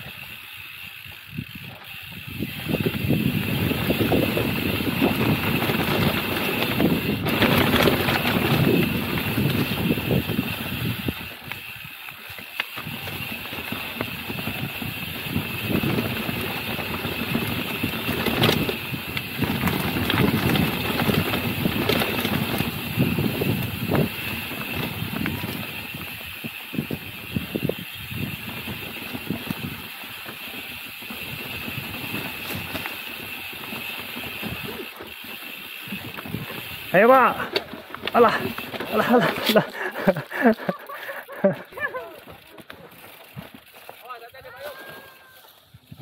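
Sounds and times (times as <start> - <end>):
bike tyres on dirt rattling: 0.0 - 46.0.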